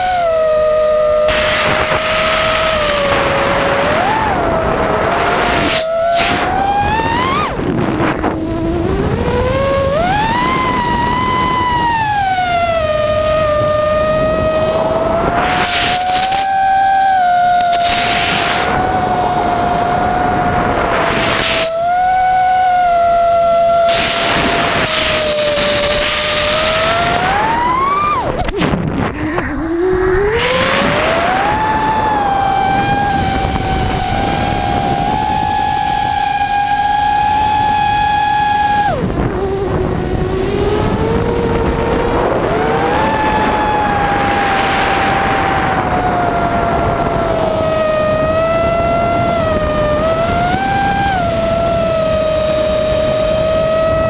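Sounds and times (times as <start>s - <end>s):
drone motors buzzing whine: 0.0s - 54.0s
wind rush: 0.0s - 54.0s.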